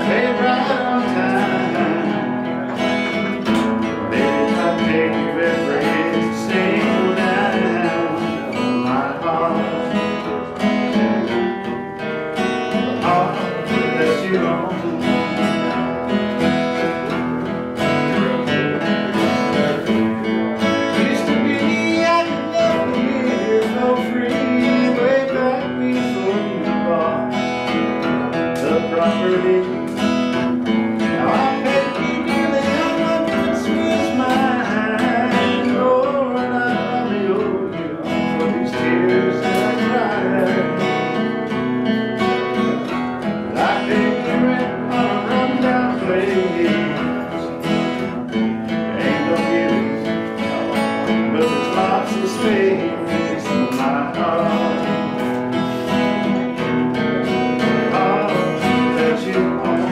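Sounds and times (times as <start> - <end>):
acoustic guitars playing: 0.0 - 59.9.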